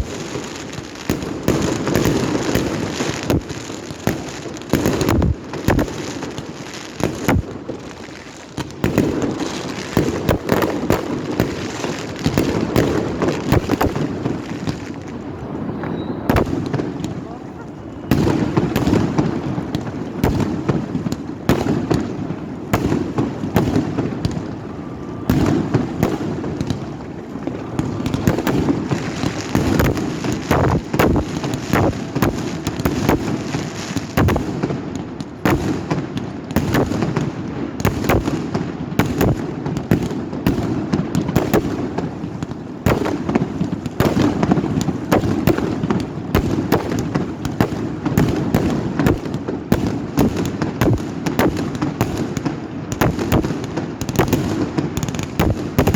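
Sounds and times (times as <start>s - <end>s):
fireworks bangs and cracks: 0.0s - 55.9s.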